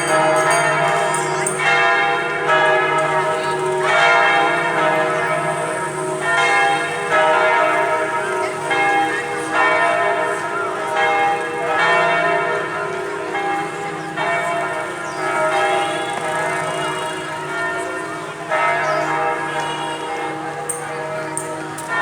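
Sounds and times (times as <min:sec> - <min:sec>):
church bells ringing a peal: 0:00.0 - 0:22.0.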